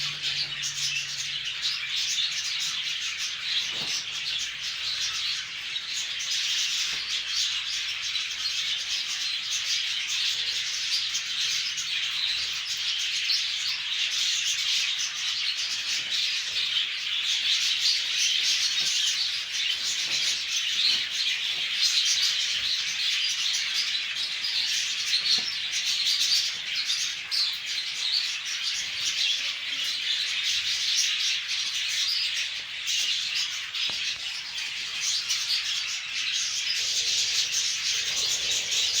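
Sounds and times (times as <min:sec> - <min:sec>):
parrots chirping and chattering: 0:00.0 - 0:39.0.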